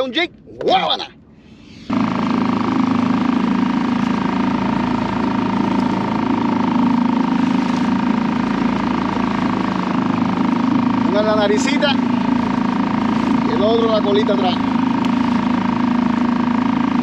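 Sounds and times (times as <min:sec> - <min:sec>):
small outboard motor running: 0:01.2 - 0:17.0.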